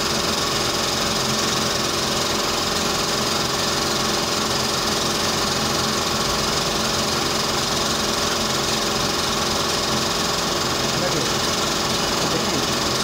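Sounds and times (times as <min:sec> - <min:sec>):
dental equipment motor hissing: 0:00.0 - 0:13.0.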